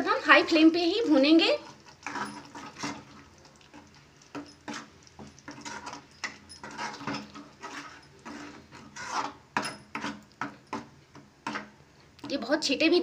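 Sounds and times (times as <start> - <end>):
spoon scraping a pan: 0.4 - 12.5.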